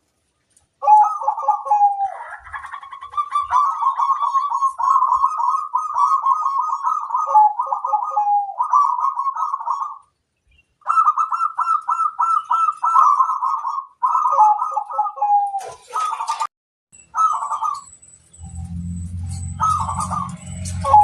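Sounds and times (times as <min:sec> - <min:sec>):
dove cooing: 0:00.8 - 0:10.1, 0:10.8 - 0:16.5, 0:17.2 - 0:21.0.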